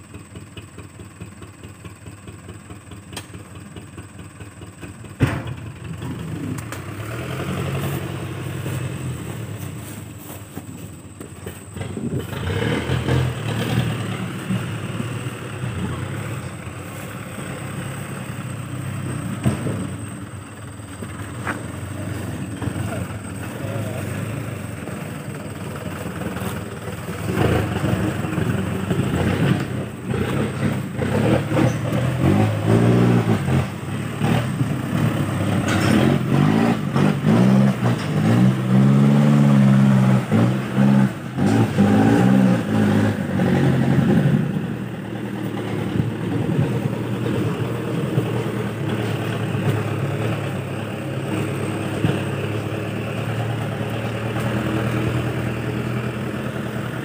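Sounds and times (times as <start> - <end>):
diesel truck engine revving: 0.0 - 57.0.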